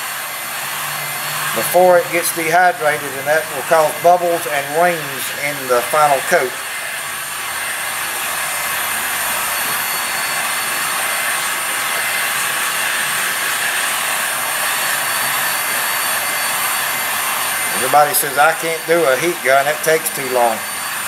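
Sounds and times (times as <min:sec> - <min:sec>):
heat gun fan blowing air: 0:00.0 - 0:21.0.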